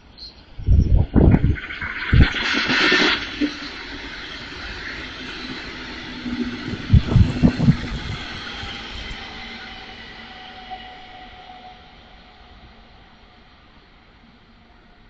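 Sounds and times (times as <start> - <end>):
train running past: 1.4 - 15.0.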